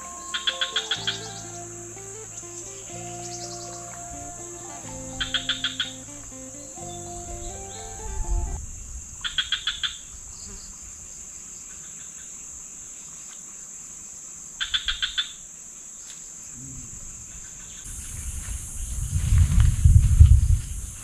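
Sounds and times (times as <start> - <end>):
insects buzzing: 0.0 - 21.0
rapid insect chirps: 0.0 - 21.0.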